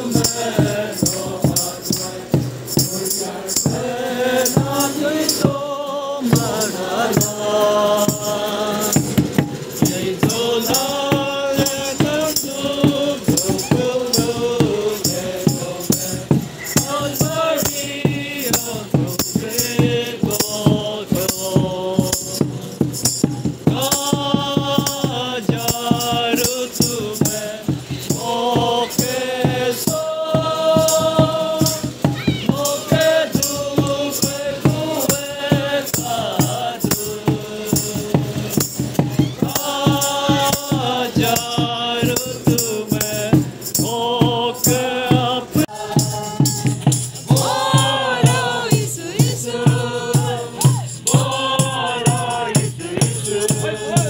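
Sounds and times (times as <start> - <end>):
group singing a carol: 0.0 - 54.0
shaken hand percussion: 0.0 - 54.0.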